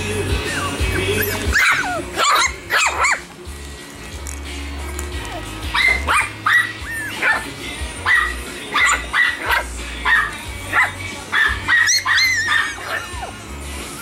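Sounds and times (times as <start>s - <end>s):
puppies yapping: 0.2s - 3.4s, 5.0s - 14.0s.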